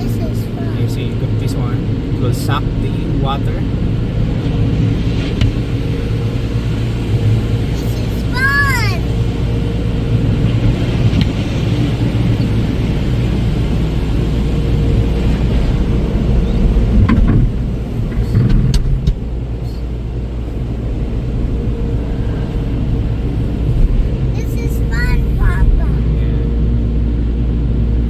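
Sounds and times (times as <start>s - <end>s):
constant hum: 0.0s - 28.0s
dryer blowers rumbling: 0.0s - 28.0s.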